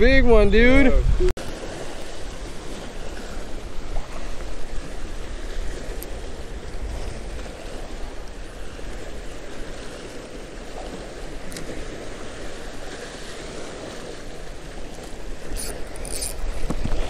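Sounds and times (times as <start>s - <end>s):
ocean waves breaking on rocks: 0.0s - 17.0s
wind buffeting microphone: 0.0s - 17.0s.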